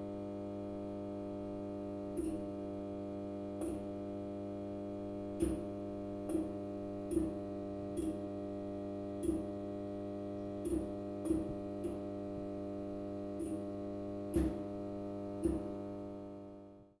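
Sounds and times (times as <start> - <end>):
fluorescent light buzzing: 0.0 - 17.0.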